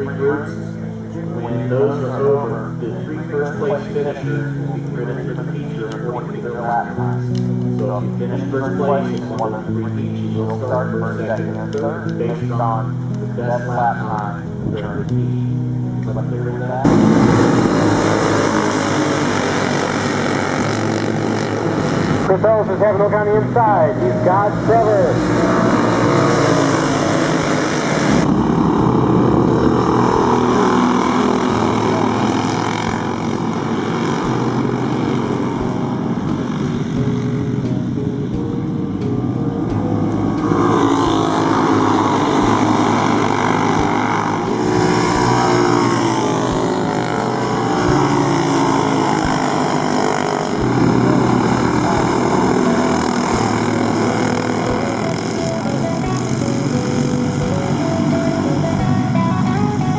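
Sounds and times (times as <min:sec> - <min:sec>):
go-kart engines buzzing: 0:00.0 - 0:59.9.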